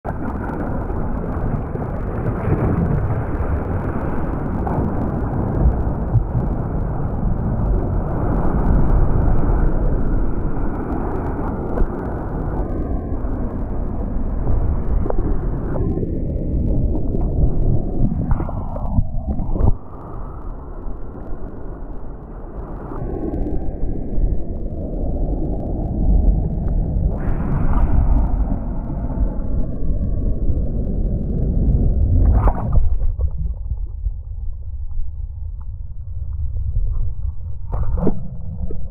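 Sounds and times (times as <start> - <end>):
muffled rumble of churning whitewater: 0.0 - 38.9.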